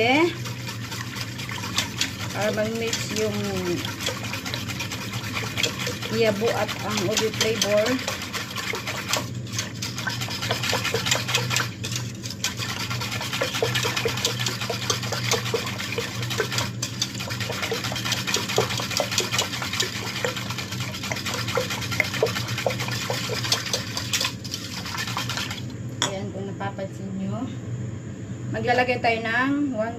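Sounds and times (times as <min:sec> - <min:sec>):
whisk beating liquid in pot: 0:00.0 - 0:25.7.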